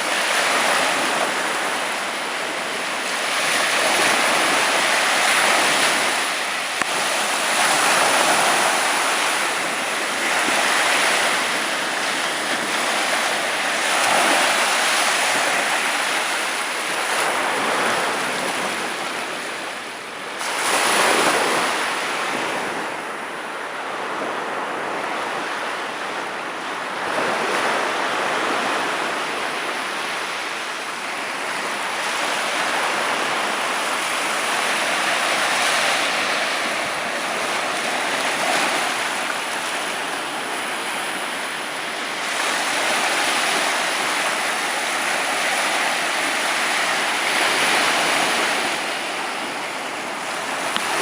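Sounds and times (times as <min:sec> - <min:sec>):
ocean surf breaking: 0:00.0 - 0:51.0.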